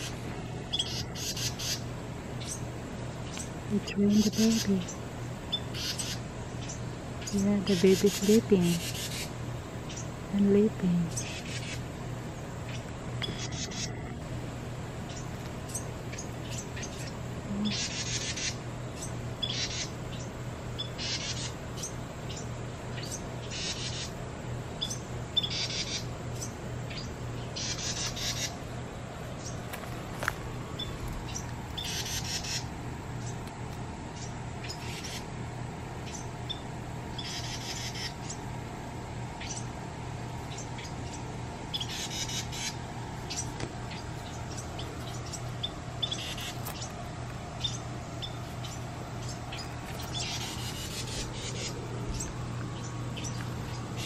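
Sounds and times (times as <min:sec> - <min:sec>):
wrens giving harsh calls: 0:00.0 - 0:24.2, 0:24.8 - 0:28.7, 0:29.3 - 0:54.0
low hum: 0:00.0 - 0:54.0.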